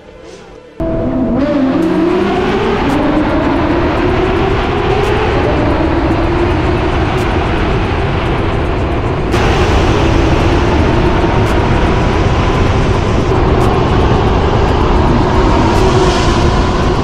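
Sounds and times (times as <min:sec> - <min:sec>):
sports car engine revving high: 0:00.8 - 0:17.0.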